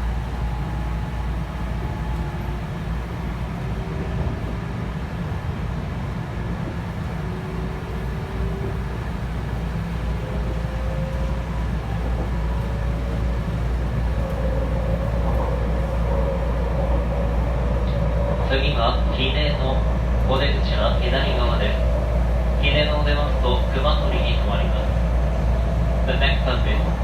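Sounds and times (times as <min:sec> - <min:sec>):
train cabin low rumble: 0:00.0 - 0:27.0.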